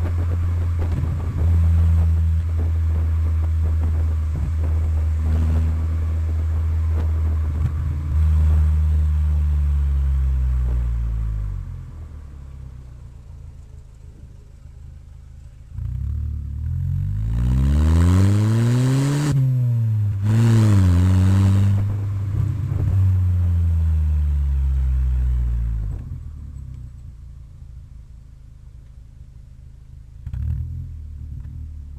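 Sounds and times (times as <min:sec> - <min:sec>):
car engine revving: 0:00.0 - 0:27.6.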